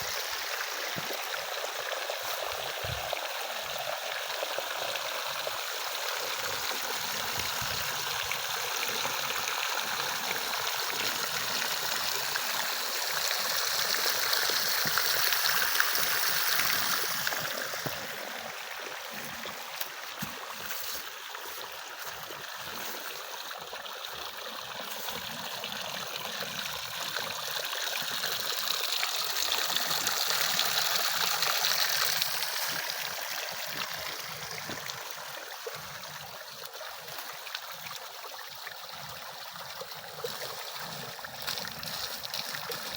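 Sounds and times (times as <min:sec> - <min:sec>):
water running along wooden channel: 0:00.0 - 0:42.9.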